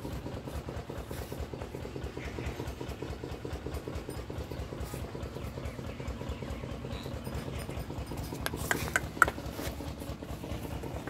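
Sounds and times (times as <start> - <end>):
engine running with fast pulse: 0.0 - 11.0.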